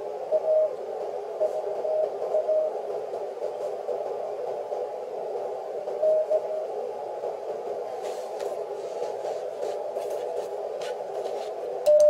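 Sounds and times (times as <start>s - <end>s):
radio band noise hiss: 0.0s - 11.8s.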